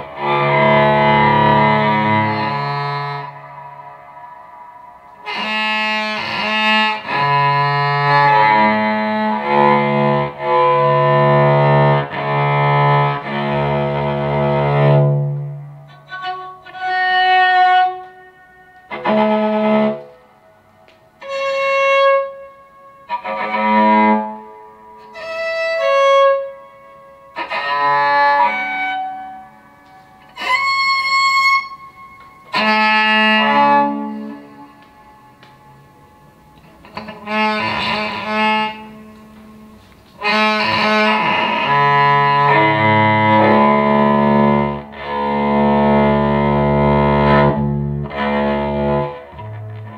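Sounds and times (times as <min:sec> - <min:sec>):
electric cello bowed: 0:00.0 - 0:20.4, 0:21.2 - 0:49.9.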